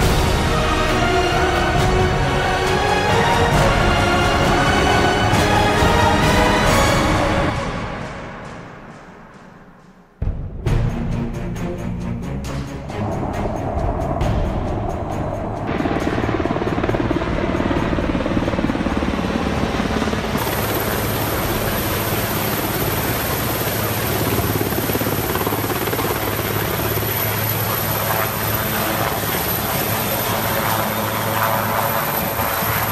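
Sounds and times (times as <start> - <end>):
helicopter landing close by: 0.0 - 8.8, 12.9 - 32.9
helicopters flying overhead: 0.0 - 8.9, 12.9 - 32.9.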